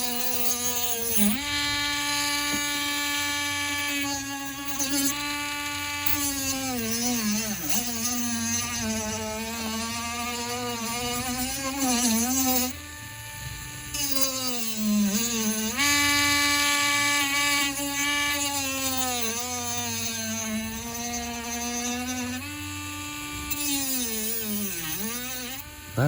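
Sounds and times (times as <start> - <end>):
rotary tool whining cutting plastic: 0.0 - 26.0.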